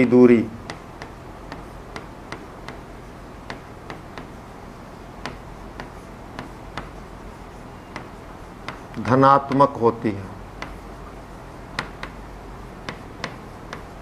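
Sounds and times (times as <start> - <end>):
low room hum: 0.0 - 14.0
chalk clicking on blackboard: 0.6 - 9.9, 10.6 - 14.0.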